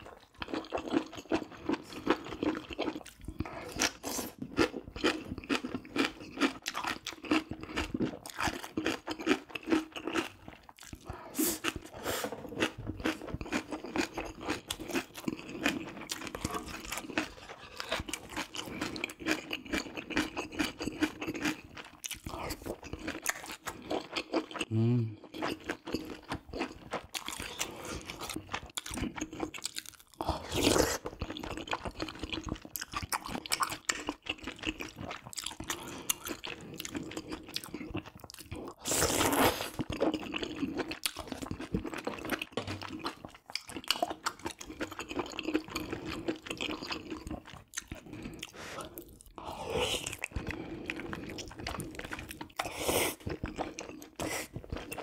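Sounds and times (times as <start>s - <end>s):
person chewing with wet smacks: 0.0s - 39.0s, 39.7s - 55.0s.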